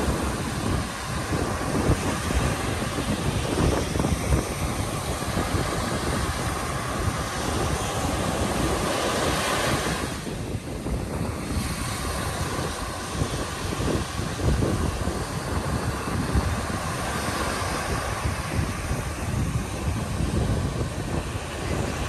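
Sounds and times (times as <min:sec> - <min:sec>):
surf washing up beach: 0:00.0 - 0:22.0
wind buffeting microphone: 0:00.0 - 0:22.0.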